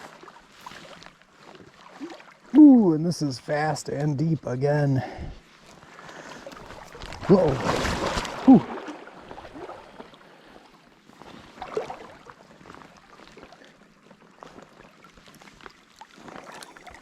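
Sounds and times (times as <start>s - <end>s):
rushing stream: 0.0s - 17.0s.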